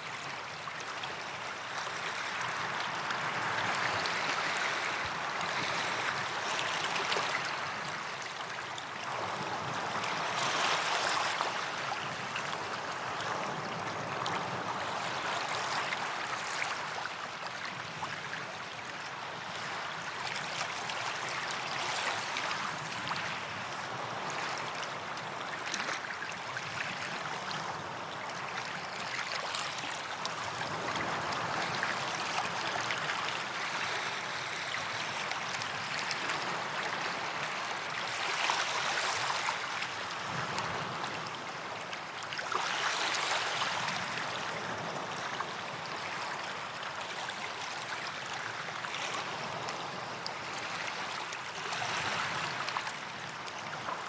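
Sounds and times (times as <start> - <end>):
small waves washing onto sand: 0.0 - 54.0.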